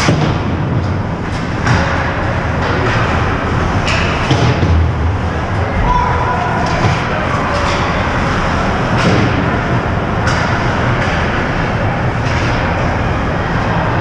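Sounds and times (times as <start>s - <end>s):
arena noise: 0.0s - 14.0s.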